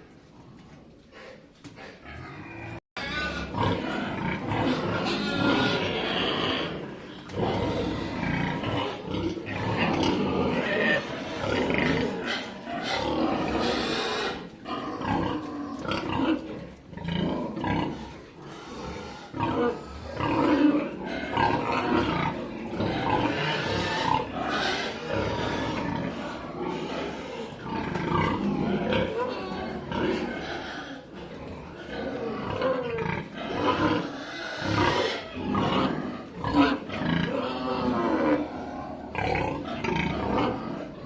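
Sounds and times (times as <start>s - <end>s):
piglets squealing and grunting: 2.0s - 41.0s.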